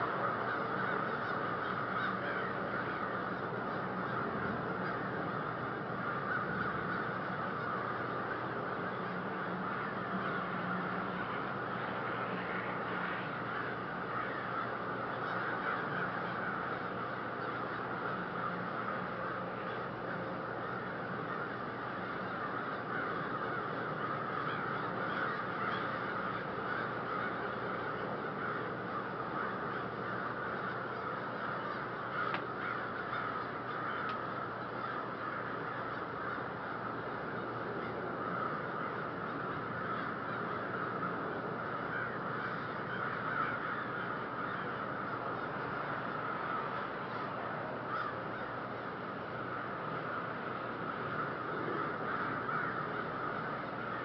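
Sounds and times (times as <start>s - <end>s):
flock of crows cawing: 0.0s - 54.0s.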